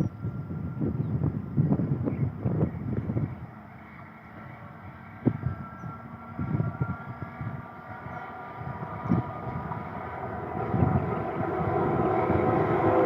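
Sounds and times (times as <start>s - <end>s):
approaching train rumble: 0.0s - 13.0s
wind buffeting microphone: 0.0s - 13.0s.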